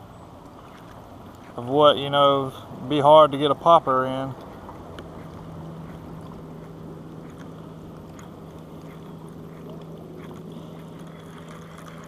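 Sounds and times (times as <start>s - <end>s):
electric trolling motor humming: 0.0s - 12.0s
water lapping against hull: 0.0s - 12.0s.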